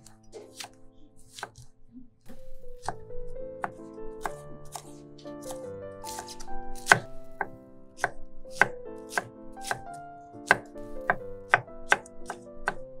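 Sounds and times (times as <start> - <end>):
knife chopping on wooden board: 0.0 - 1.7, 2.3 - 3.0, 3.6 - 12.8
background music: 0.0 - 13.0.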